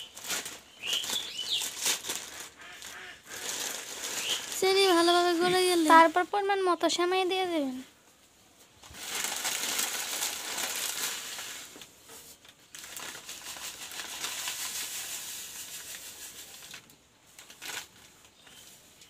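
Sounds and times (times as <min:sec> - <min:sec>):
sharp crackle: 0:00.0 - 0:06.0, 0:08.8 - 0:18.8
plastic packet crinkling: 0:00.0 - 0:07.4, 0:08.8 - 0:11.9, 0:12.6 - 0:15.8, 0:16.5 - 0:18.6.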